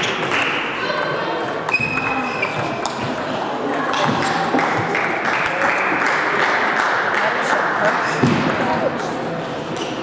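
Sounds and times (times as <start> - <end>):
sports hall hubbub with voices: 0.0 - 10.0.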